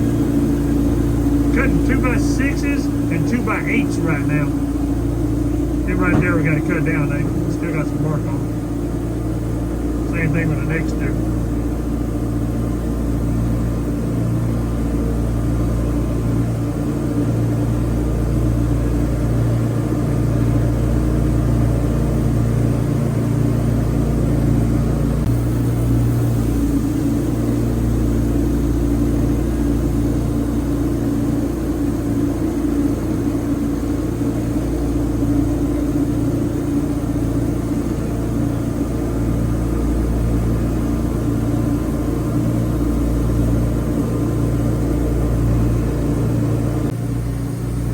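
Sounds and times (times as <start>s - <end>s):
band sawmill engine droning: 0.0s - 47.9s.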